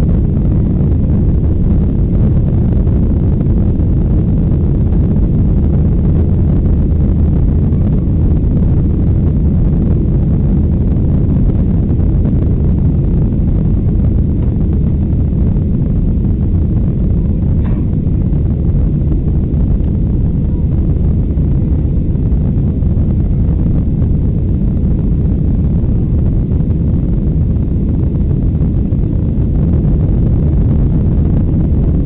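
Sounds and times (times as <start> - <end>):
jet engines rumbling in cabin: 0.0 - 32.0.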